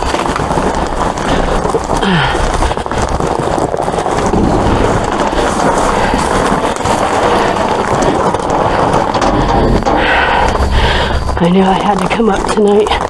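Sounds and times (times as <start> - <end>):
bag dragged: 0.0 - 11.4
plastic bags rustling and crinkling: 0.0 - 13.0.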